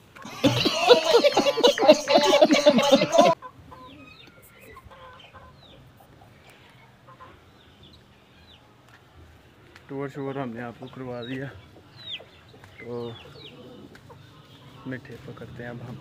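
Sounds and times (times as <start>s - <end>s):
chickens clucking and cackling: 0.0s - 9.5s, 10.1s - 16.0s.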